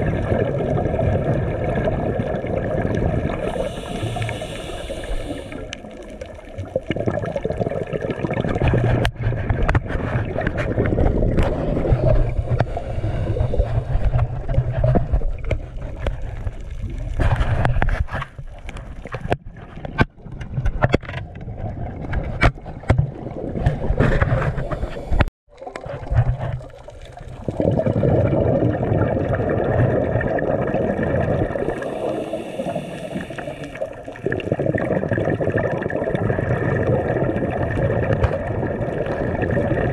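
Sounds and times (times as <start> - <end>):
low underwater rushing rumble: 0.0 - 39.9.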